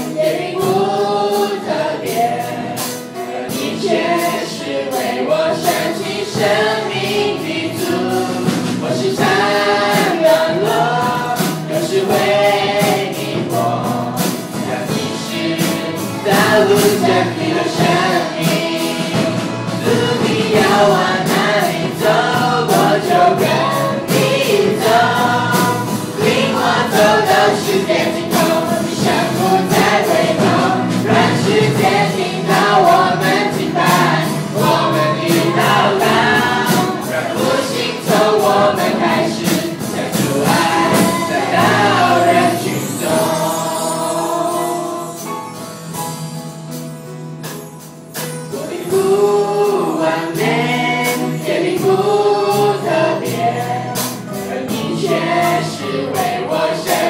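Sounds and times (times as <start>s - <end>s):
group singing worship song: 0.0s - 45.7s, 48.5s - 57.0s.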